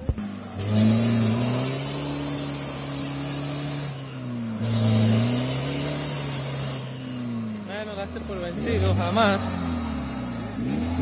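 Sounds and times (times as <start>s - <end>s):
pickup engine revving hard: 0.0s - 11.0s.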